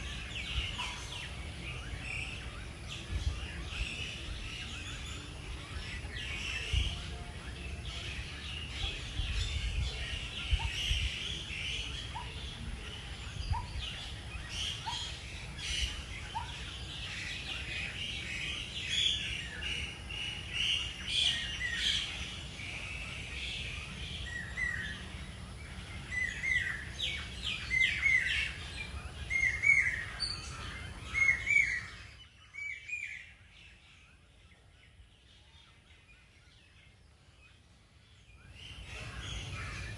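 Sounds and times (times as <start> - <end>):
birds calling and chirping: 0.0 - 39.9.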